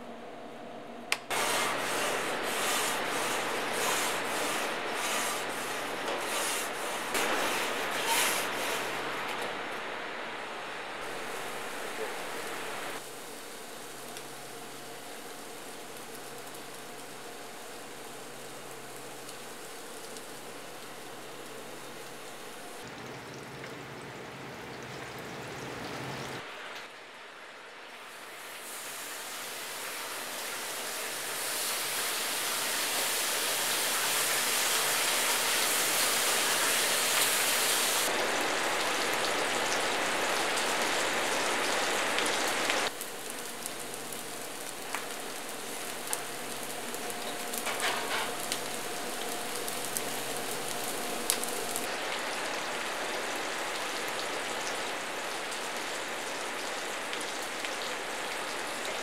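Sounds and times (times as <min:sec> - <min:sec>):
fries bubbling in deep-fryer: 0:01.2 - 0:59.0
bacon sizzling in frying pan: 0:01.3 - 0:09.3, 0:11.0 - 0:26.7, 0:27.9 - 0:59.0.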